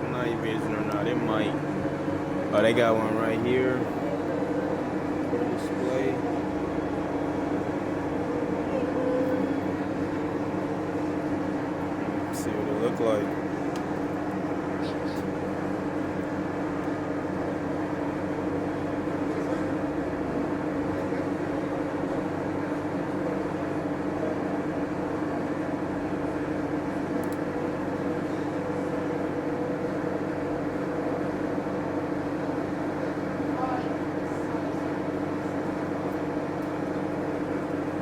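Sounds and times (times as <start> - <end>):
droning air handling hum: 0.0 - 38.0.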